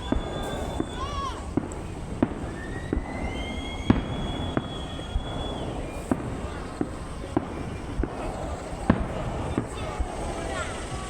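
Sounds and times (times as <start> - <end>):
fireworks bangs: 0.0 - 11.0
rising firework whistle: 0.0 - 11.0.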